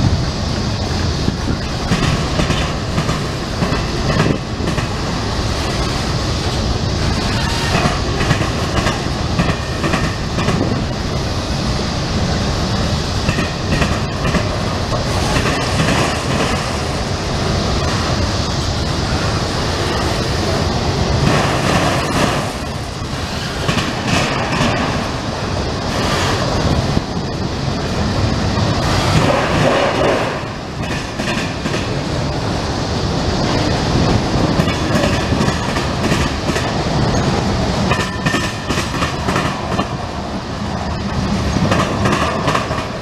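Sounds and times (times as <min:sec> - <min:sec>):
train wheels rolling on rails: 0:00.0 - 0:43.0
wheels clacking over rail joints: 0:01.3 - 0:11.0, 0:13.2 - 0:17.0, 0:17.7 - 0:32.3, 0:33.4 - 0:40.4, 0:41.0 - 0:43.0.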